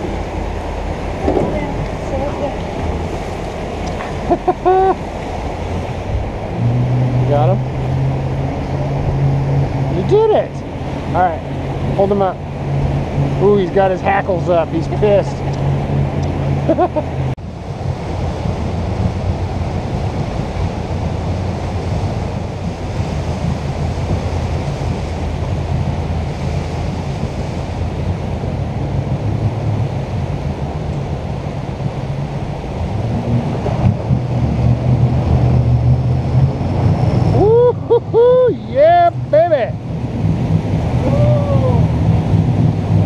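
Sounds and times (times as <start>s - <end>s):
boat engine humming: 0.0s - 43.0s
rushing water: 0.0s - 43.0s
wind buffeting microphone: 0.0s - 43.0s.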